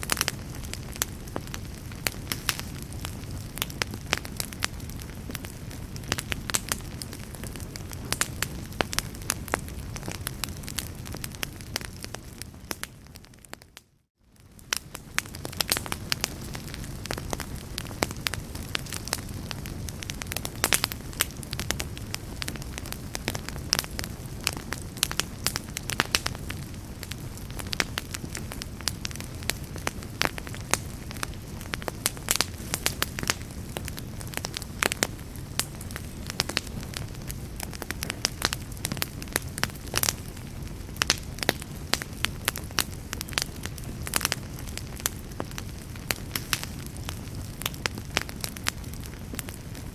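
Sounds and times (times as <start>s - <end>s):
fire crackling and popping: 0.0s - 49.9s
low rumble of flame: 0.0s - 49.9s.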